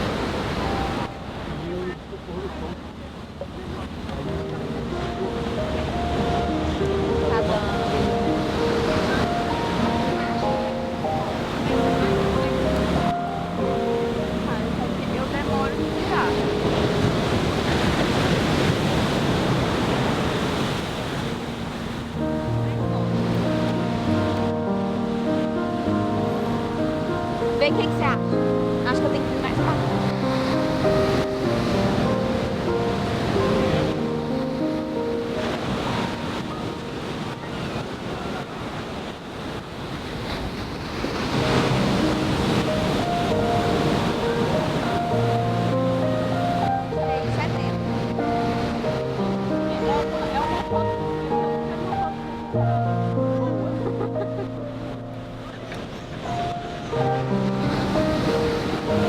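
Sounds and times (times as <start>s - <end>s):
ocean surf breaking: 0.0s - 59.0s
soft background music: 0.3s - 2.0s, 4.0s - 18.2s, 22.1s - 37.8s, 41.3s - 59.0s
wind buffeting microphone: 2.6s - 24.4s, 25.2s - 59.0s.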